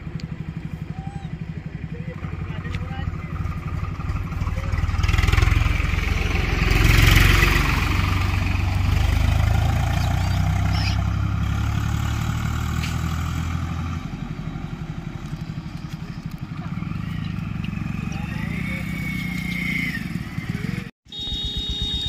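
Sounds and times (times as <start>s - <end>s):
tractor engine driving past: 0.0s - 22.0s.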